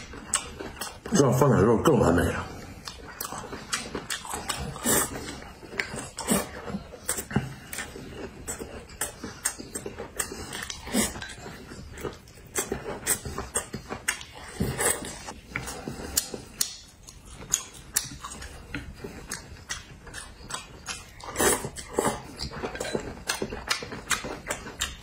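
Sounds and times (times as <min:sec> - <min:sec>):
chewing and lip-smacking: 0:00.0 - 0:01.5, 0:02.1 - 0:25.0.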